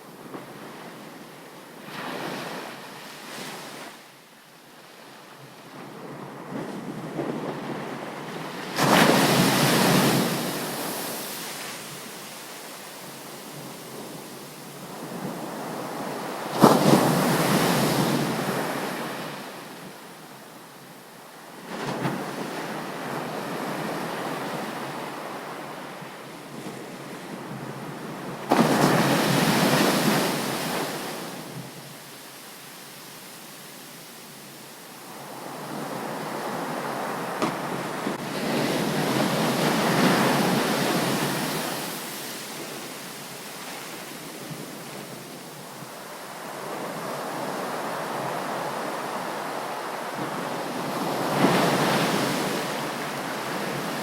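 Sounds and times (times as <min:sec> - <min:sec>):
sea waves breaking on beach: 0:06.0 - 0:19.9, 0:21.6 - 0:54.0.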